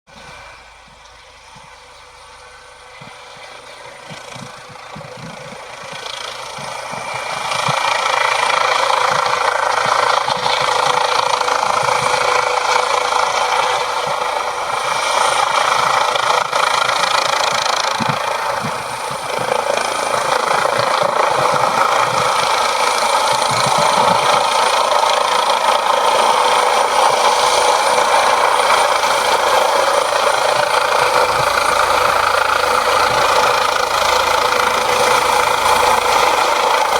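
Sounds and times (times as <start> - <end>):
helicopter rotor and engine: 0.1 - 36.9.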